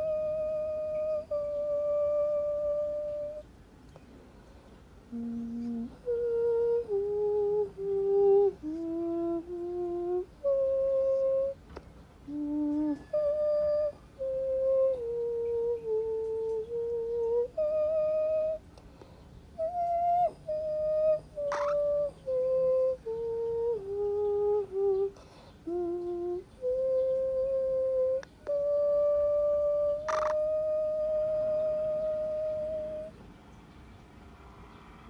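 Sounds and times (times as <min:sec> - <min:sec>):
person humming a lullaby: 0:00.0 - 0:03.5, 0:05.1 - 0:18.7, 0:19.6 - 0:33.2.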